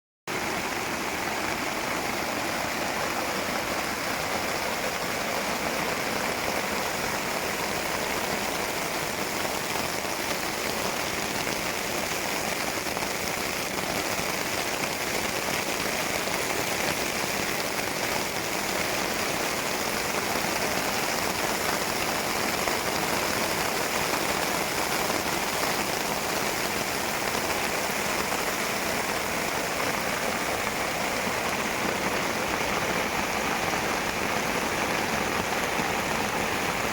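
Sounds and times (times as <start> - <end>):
rain pattering on a tarp: 0.3 - 36.9.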